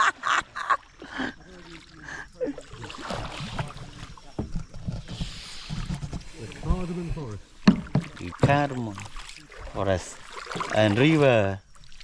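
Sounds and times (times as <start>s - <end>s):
water splashing around kayak: 0.1s - 12.0s.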